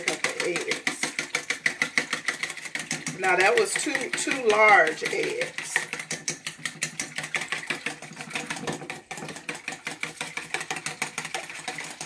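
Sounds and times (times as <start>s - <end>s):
whisk clattering in metal bowl: 0.0s - 12.0s.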